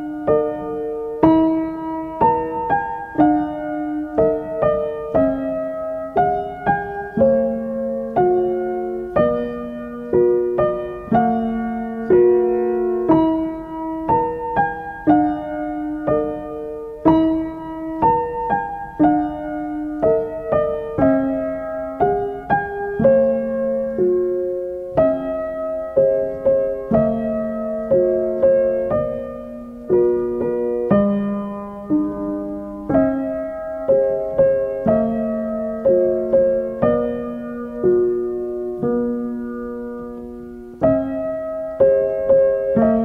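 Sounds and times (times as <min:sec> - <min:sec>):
slow piano melody: 0:00.0 - 0:43.0.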